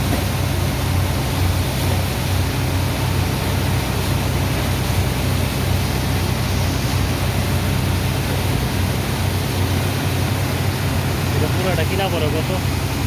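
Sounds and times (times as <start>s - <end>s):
constant rushing noise: 0.0s - 13.0s
dredger engine hum: 0.0s - 13.0s.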